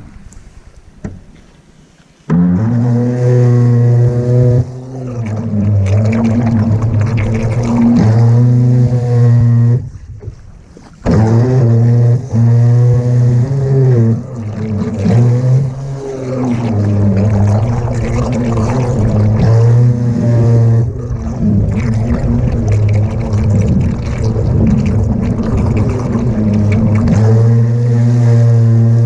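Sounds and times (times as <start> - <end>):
boat motor drone: 2.3 - 29.0
water rushing past: 2.7 - 29.0.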